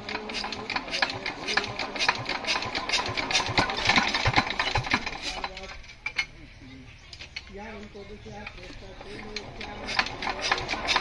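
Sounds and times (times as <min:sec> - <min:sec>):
diesel engine cranking: 0:00.0 - 0:06.5, 0:07.1 - 0:11.0.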